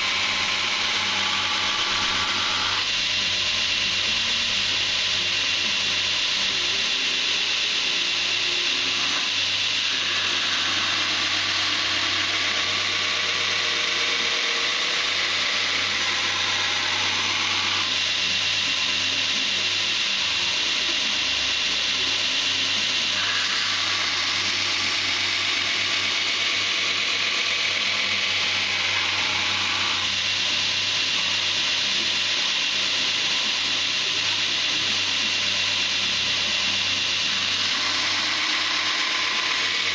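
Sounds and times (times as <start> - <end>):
belt grinder grinding steel: 0.0 - 39.9.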